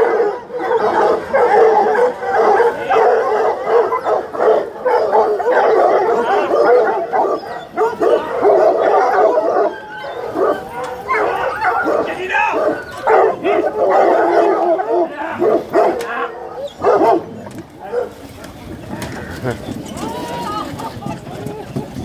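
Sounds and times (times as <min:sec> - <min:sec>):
hounds crying and yelping: 0:00.0 - 0:22.0.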